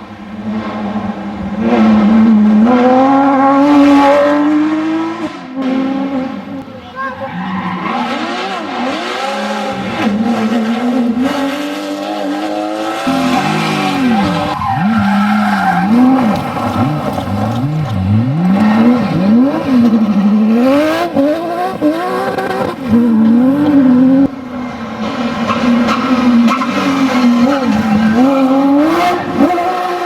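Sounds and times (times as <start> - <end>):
sports car engine revving: 0.0 - 30.0.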